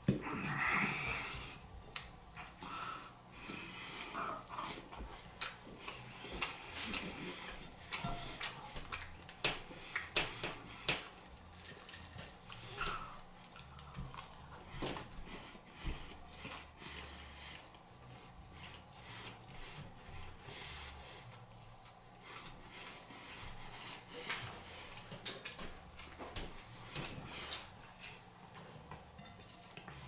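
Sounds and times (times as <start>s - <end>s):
close chewing and mouth sounds: 0.0s - 30.0s.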